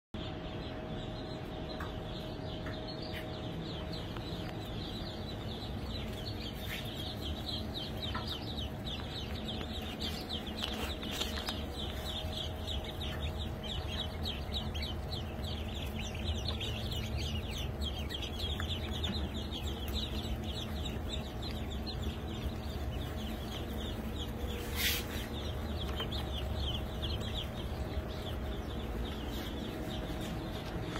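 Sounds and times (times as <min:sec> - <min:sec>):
ducklings peeping: 0:00.2 - 0:30.9
steady low hum: 0:00.2 - 0:30.9.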